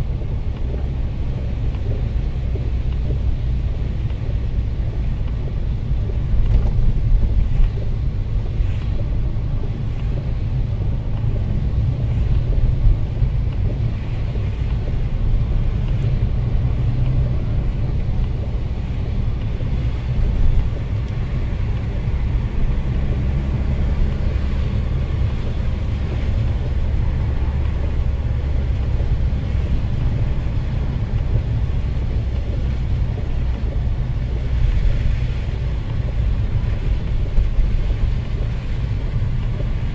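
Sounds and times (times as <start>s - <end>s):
engine and road rumble: 0.0s - 39.9s
tyres hissing on wet road: 0.0s - 39.9s.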